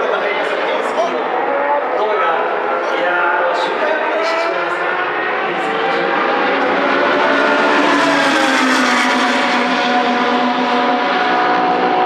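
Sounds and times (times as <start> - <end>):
racing car engine passing: 0.5 - 12.0.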